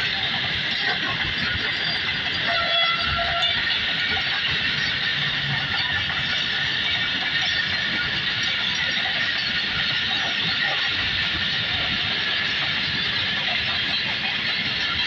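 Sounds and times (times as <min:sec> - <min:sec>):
train coaches rolling on rails: 0:00.0 - 0:15.0.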